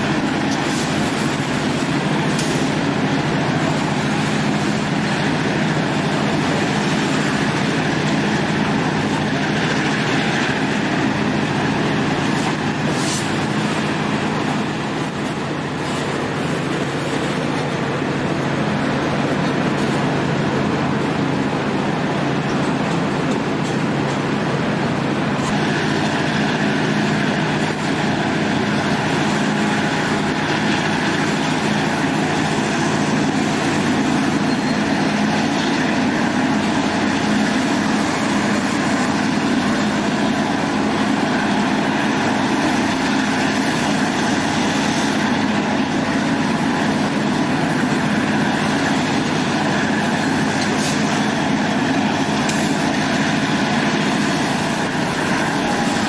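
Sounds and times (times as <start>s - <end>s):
diesel locomotive engine droning: 0.0s - 56.0s
train wheels rumbling on track: 0.0s - 56.0s.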